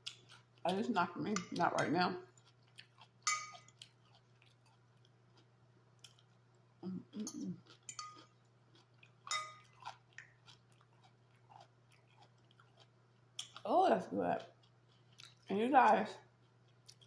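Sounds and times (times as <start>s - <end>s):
chewing crunchy salad: 0.0s - 13.7s, 14.3s - 17.0s.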